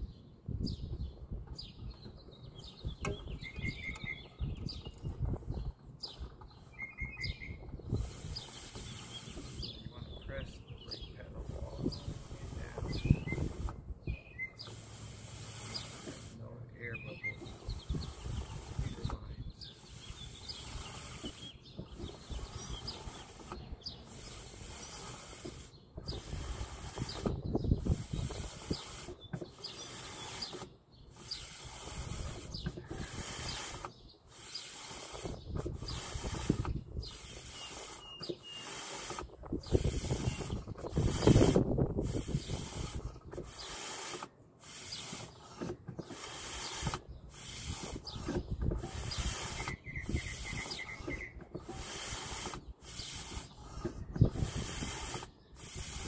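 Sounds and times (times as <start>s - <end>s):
brake cylinder pumping strokes: 1.4s - 56.0s.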